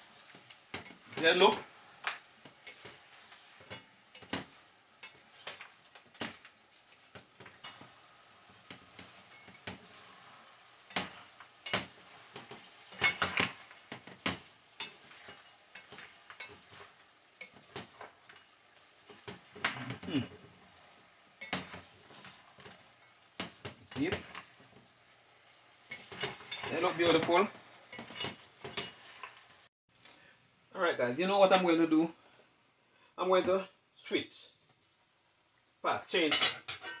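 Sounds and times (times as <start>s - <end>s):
meat sizzling: 0.0s - 30.7s.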